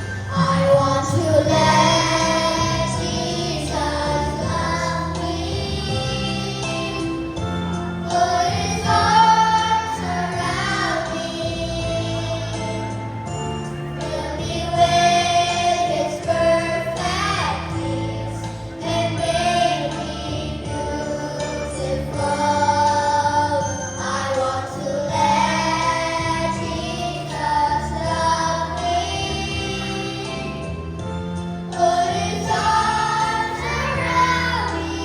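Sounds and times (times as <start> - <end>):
instrumental backing track: 0.0 - 35.0
choir singing in unison: 0.3 - 7.2, 8.0 - 13.0, 14.0 - 30.7, 31.7 - 35.0.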